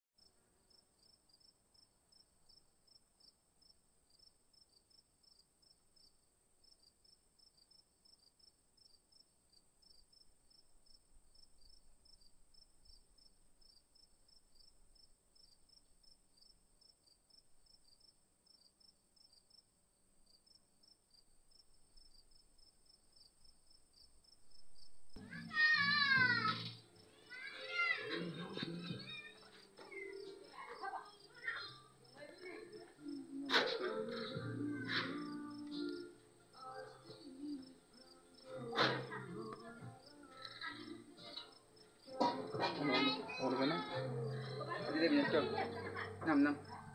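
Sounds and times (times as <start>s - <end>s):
insect chirping trill: 0.2s - 46.9s.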